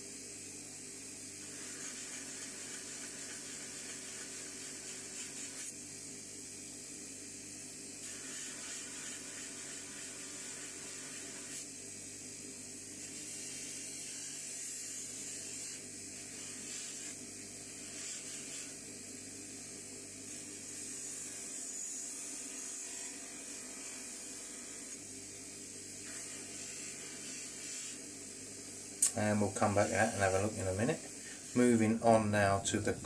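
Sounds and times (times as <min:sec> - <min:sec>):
small power tool whirring: 0:00.0 - 0:06.5, 0:07.7 - 0:32.2.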